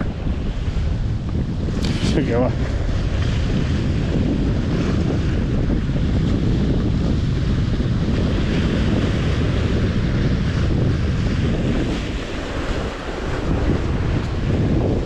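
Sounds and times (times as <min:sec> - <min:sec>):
sea waves breaking on rocks: 0:00.0 - 0:15.0
wind buffeting microphone: 0:00.0 - 0:15.0.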